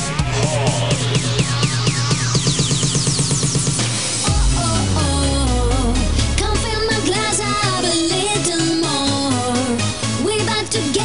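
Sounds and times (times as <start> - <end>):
music with steady beat: 0.0 - 10.2.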